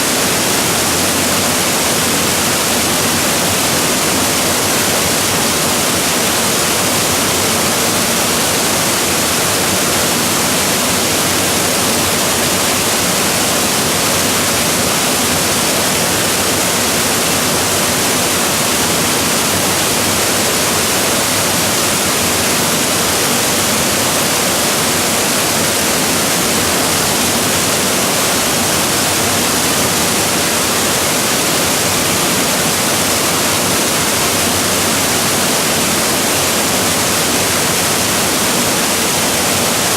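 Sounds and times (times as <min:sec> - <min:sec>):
waterfall crashing: 0:00.0 - 0:39.9.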